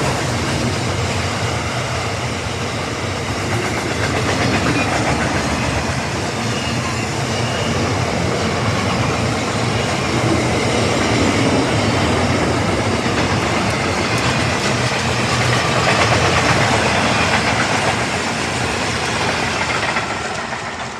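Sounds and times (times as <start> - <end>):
freight train wheels clattering: 0.0 - 20.9.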